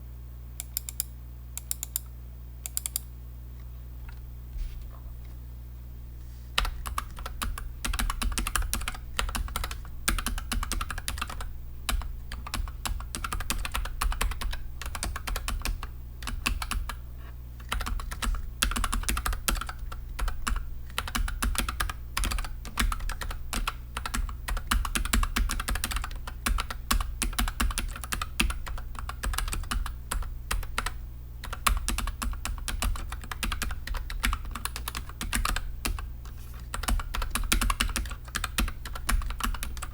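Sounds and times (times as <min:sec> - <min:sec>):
mechanical keyboard typing: 0:06.6 - 0:17.0, 0:17.6 - 0:39.9.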